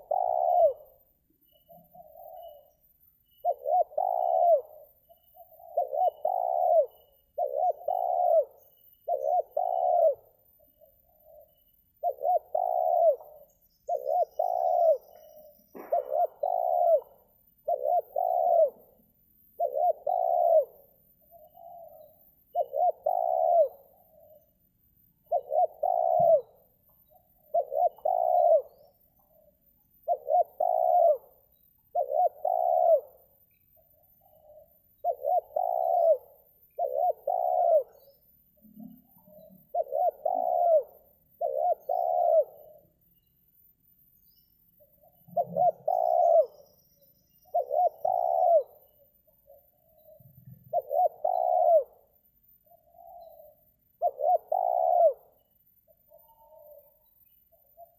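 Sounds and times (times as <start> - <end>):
dove cooing: 0.0 - 24.6, 25.2 - 43.3, 44.8 - 57.9.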